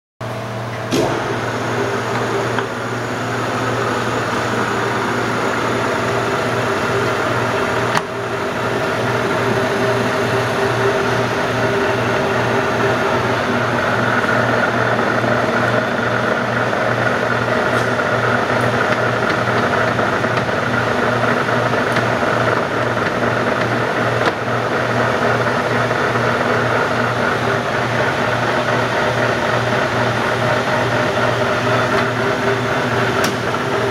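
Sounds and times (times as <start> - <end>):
lathe humming: 0.3 - 33.9.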